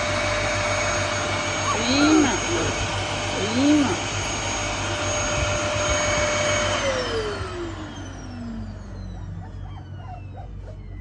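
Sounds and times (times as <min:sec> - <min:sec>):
vacuum cleaner whining: 0:00.0 - 0:11.0
vacuum motor spinning down: 0:00.0 - 0:11.0.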